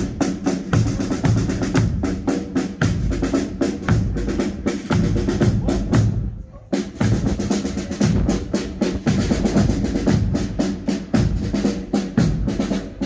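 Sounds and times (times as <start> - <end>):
snare and bass drum rhythm: 0.0 - 13.0.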